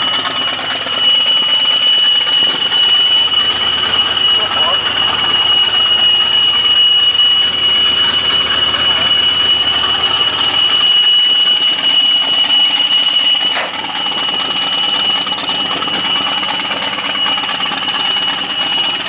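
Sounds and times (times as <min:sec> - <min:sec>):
high-pitched whine: 0:00.0 - 0:19.0
race car engine idling: 0:00.0 - 0:19.0.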